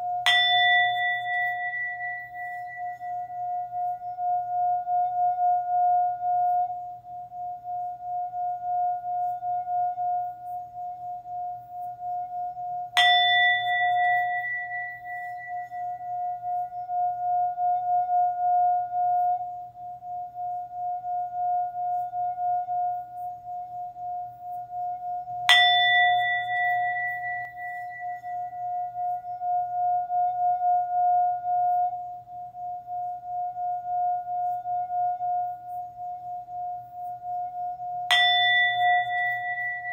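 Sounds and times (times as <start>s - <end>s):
singing bowl struck ringing: 0.0s - 39.9s
singing bowl wavering hum: 0.0s - 39.9s.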